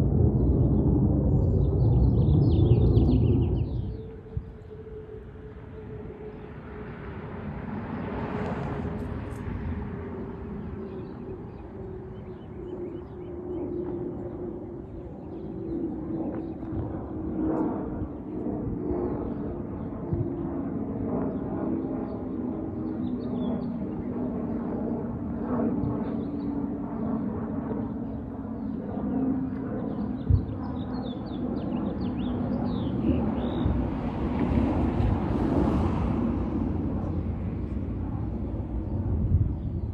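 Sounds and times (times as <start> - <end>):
propeller aircraft droning overhead: 0.0 - 39.9.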